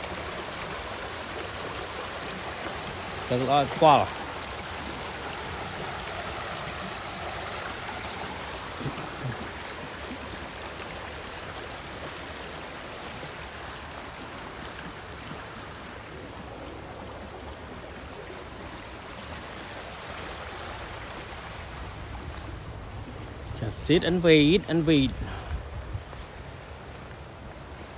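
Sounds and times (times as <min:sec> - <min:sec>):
river rushing: 0:00.0 - 0:27.9.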